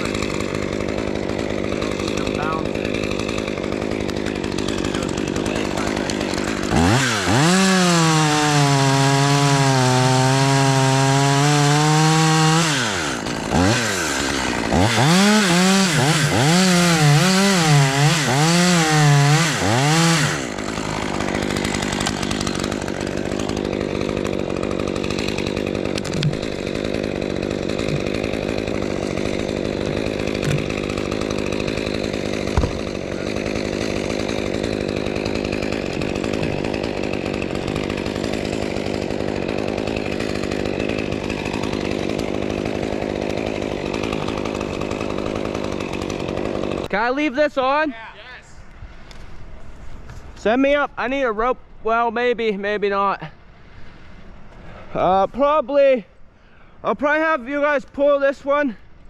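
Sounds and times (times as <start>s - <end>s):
chainsaw revving and cutting wood: 0.0s - 47.9s.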